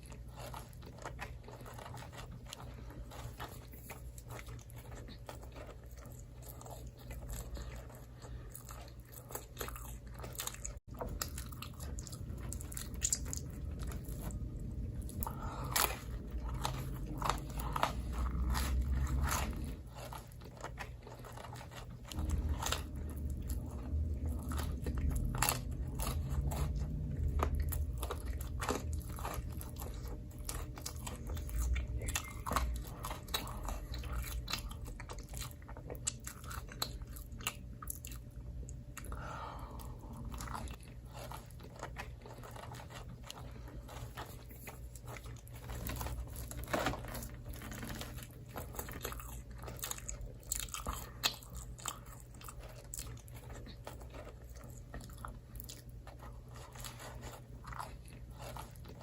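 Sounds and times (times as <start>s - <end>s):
biting and chewing crunches: 0.0s - 59.0s.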